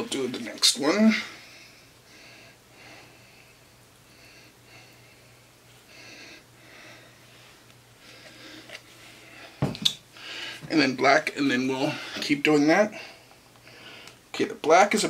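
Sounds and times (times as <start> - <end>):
low steady hum: 0.0 - 15.0
quiet breathing: 0.9 - 10.7, 11.8 - 14.3.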